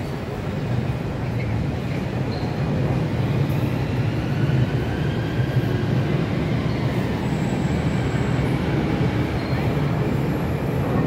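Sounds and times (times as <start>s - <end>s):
underground train rumble: 0.0s - 11.0s.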